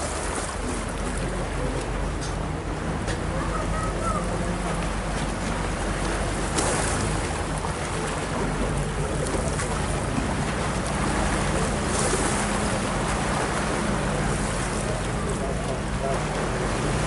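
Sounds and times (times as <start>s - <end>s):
boat engine running: 0.0s - 17.0s
rushing water: 0.0s - 17.0s.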